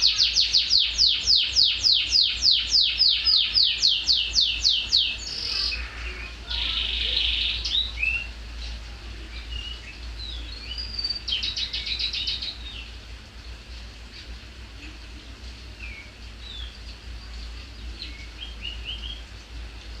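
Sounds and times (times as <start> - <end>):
canary singing trills: 0.0 - 20.0.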